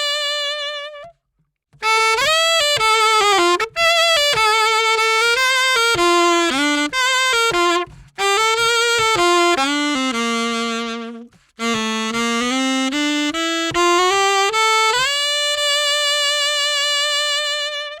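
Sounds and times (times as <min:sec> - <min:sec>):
solo saxophone melody: 0:00.0 - 0:18.0.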